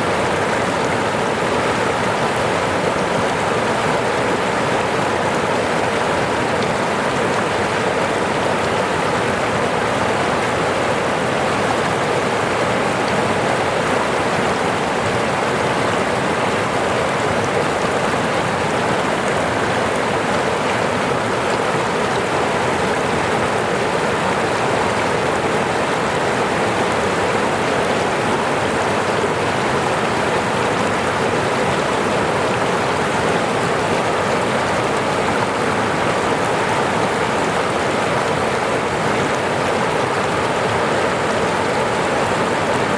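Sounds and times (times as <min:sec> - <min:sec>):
falling water rushing: 0:00.0 - 0:42.9.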